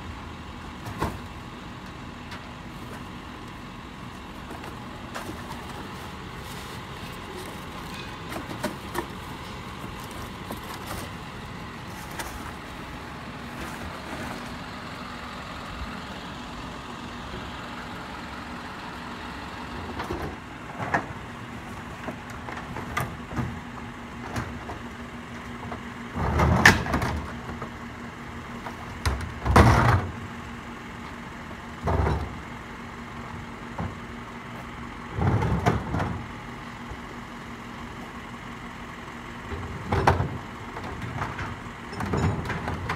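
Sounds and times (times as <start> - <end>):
garbage truck running: 0.0 - 42.9.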